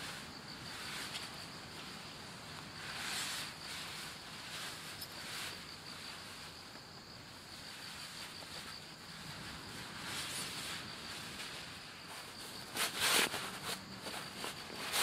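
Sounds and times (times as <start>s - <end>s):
insects chirping: 0.0s - 15.0s
mesh net and fabric rustling: 0.0s - 15.0s.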